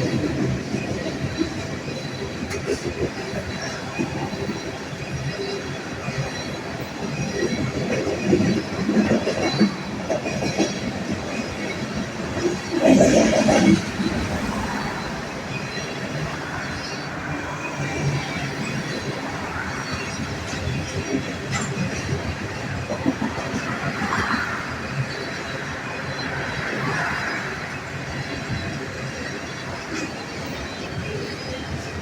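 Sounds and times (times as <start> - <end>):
train wheels clattering on rails: 0.0 - 32.0.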